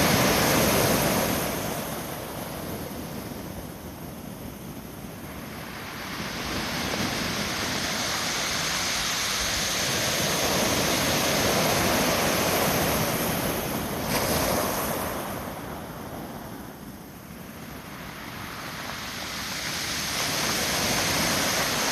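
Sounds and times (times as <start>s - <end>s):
wave breaking and rushing up beach: 0.0s - 21.9s.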